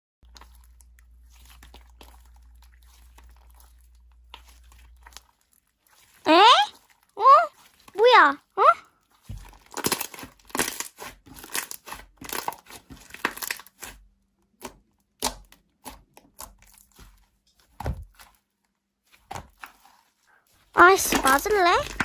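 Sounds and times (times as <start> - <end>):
slime crackling and popping: 0.2 - 8.0, 9.0 - 20.0, 20.9 - 22.0.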